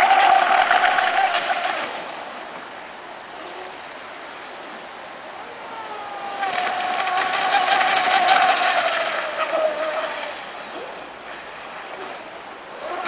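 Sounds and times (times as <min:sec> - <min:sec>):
hull slapping water: 0:00.0 - 0:13.0.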